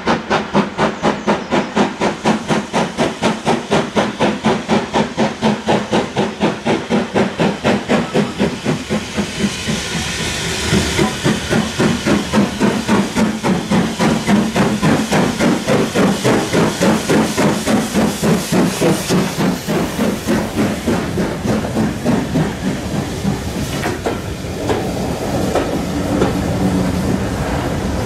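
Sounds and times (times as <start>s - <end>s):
coaches clicking over rail joints: 0.0s - 27.8s
steam locomotive exhaust beats: 0.0s - 28.0s.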